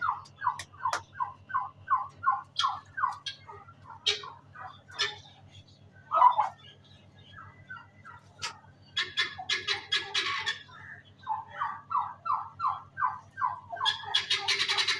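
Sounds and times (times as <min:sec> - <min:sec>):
turkeys calling: 0:00.0 - 0:14.9.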